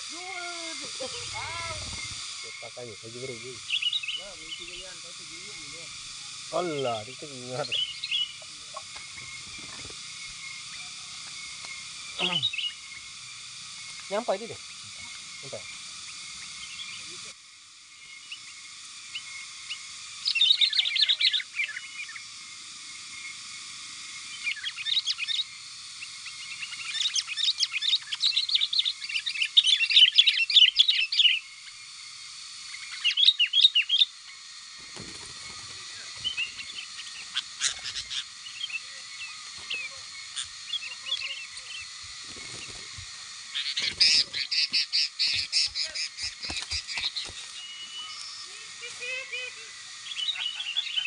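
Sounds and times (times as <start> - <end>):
bulbuls chirping: 0.0 - 22.4, 24.1 - 51.0
steady high hiss: 0.0 - 51.0.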